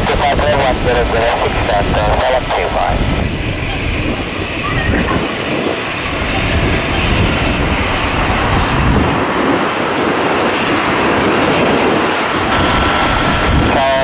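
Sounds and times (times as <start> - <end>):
jet engines at takeoff thrust: 0.0 - 14.0.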